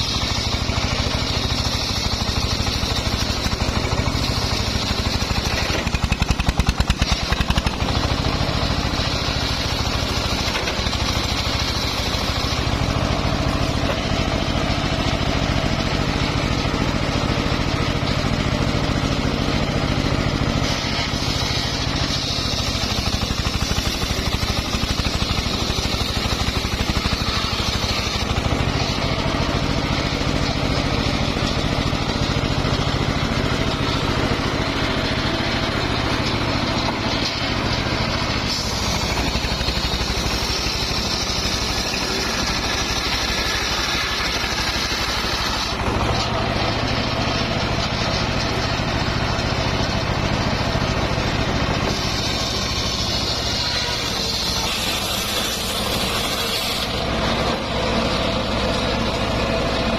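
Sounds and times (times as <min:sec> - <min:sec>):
saw hissing through log: 0:00.0 - 0:59.9
sawmill engine running: 0:00.0 - 0:59.9.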